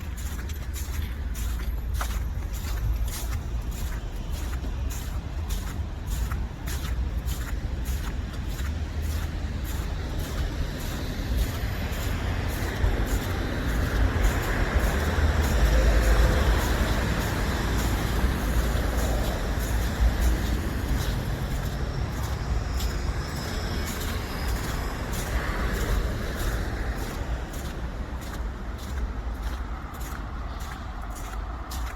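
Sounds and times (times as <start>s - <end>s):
footsteps crunching in snow: 0.0s - 31.9s.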